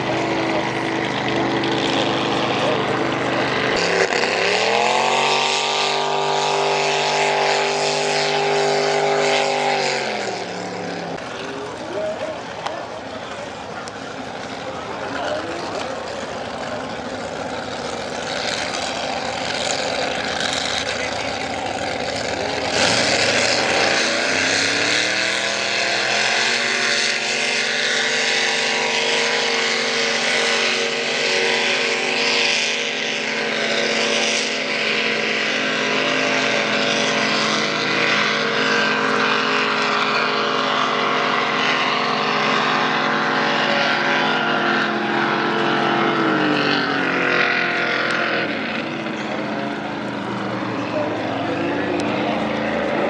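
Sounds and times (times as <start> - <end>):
race boat engines high-revving: 0.0 - 53.0.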